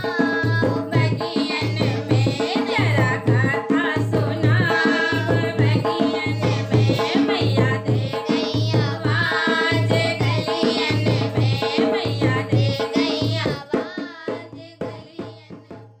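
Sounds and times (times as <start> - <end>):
devotional singing: 0.0 - 15.0
hand drum beat: 0.0 - 15.8.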